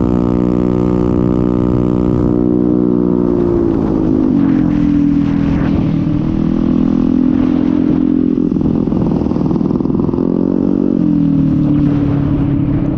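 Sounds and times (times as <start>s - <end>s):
scooter engine running: 0.0s - 12.9s
wind rumble on microphone: 0.0s - 12.9s.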